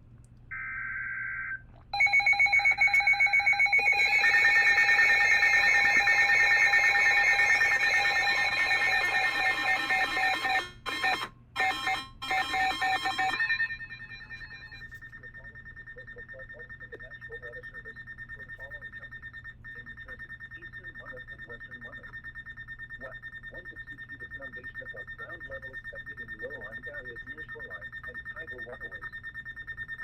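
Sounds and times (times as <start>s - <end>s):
alert radio alarm beeping: 0.5s - 30.0s
second alarm tone: 0.5s - 30.0s
data burst tones: 1.4s - 30.0s.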